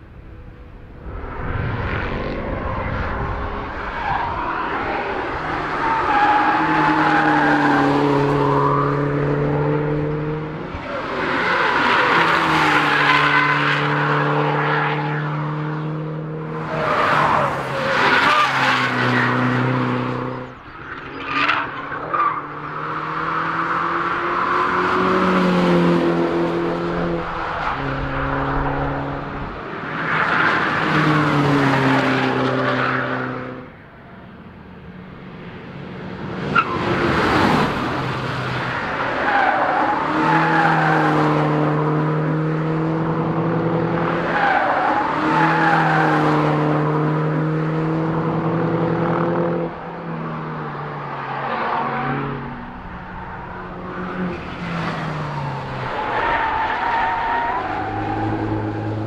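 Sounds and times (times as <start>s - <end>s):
car engines accelerating with upshifts: 0.0s - 59.0s.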